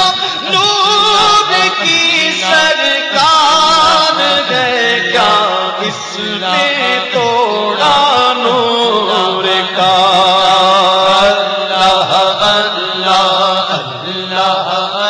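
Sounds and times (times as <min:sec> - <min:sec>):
men singing wordless melody: 0:00.0 - 0:15.0.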